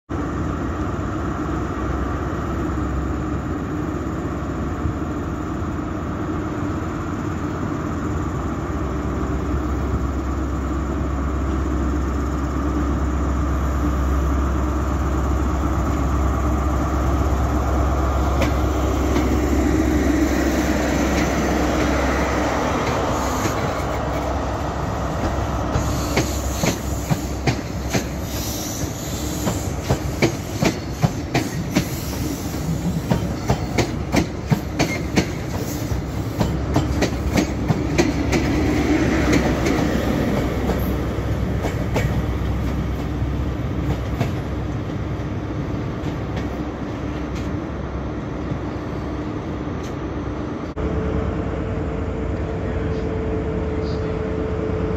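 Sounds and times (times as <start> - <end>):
diesel train engine drone: 0.1 - 54.9.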